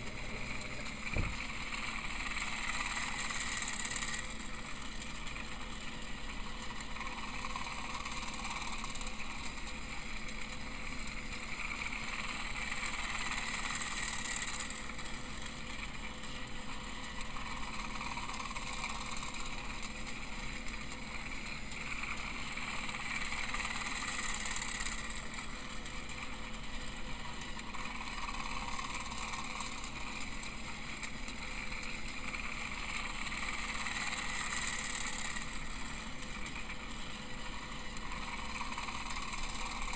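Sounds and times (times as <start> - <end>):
toy train motor whirring: 0.0 - 39.9.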